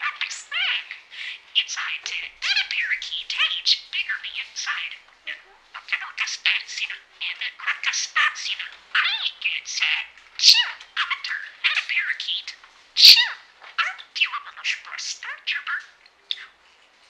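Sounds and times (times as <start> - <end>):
budgerigar chattering: 0.0 - 16.6
bird warbles and chirps: 0.0 - 16.8.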